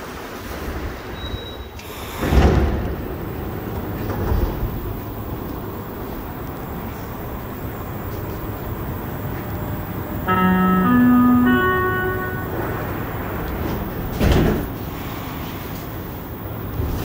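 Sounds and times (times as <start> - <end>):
train interior rumble: 0.0 - 17.0.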